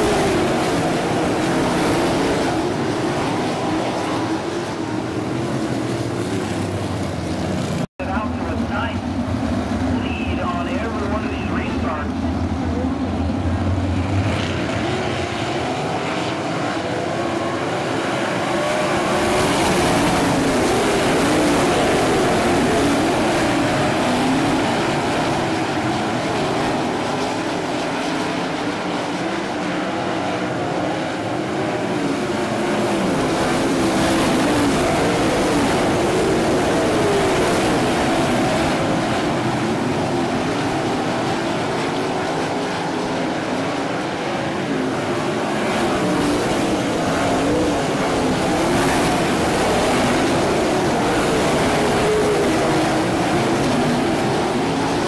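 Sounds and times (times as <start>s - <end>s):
racing car engines at full throttle: 0.0s - 55.0s.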